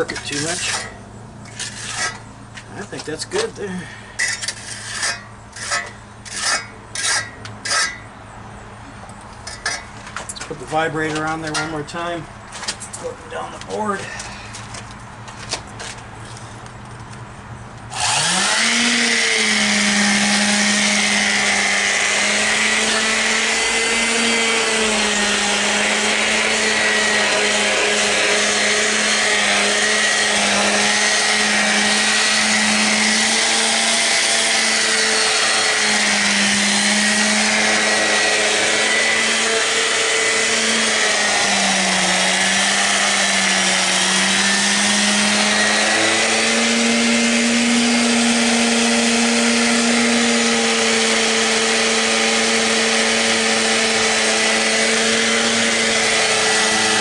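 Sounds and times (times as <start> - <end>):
concrete vibrator buzzing: 0.0 - 12.1, 17.6 - 57.0.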